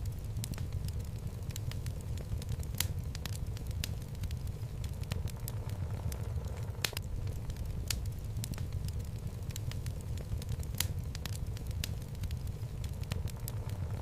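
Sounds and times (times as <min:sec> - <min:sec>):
low rumble of flame: 0:00.0 - 0:14.0
wood crackling and popping: 0:00.0 - 0:14.0.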